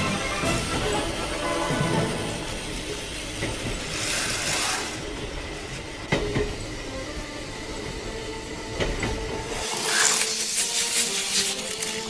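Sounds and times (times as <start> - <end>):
toy train running on track: 0.0 - 12.0.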